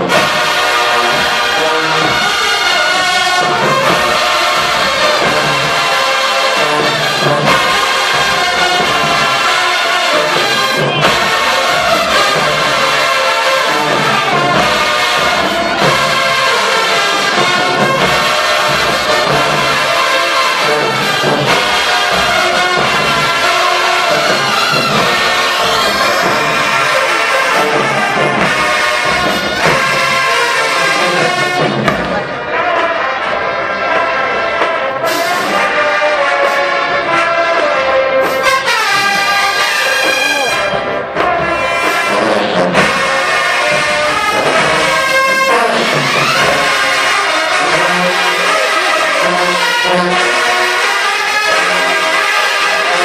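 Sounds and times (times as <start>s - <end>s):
drums: 0.0s - 53.0s
marching band playing: 0.0s - 53.0s
trombones and trumpets: 0.0s - 53.0s.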